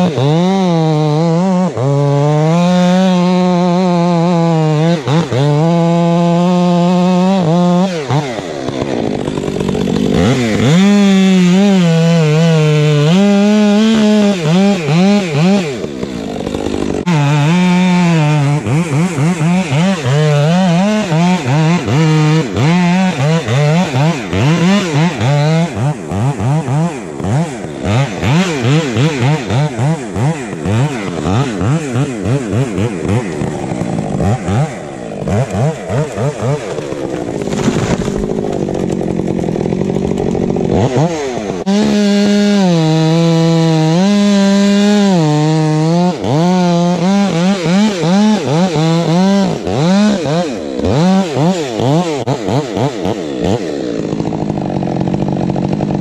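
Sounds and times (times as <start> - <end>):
chainsaw cutting at full throttle: 0.0 - 56.0.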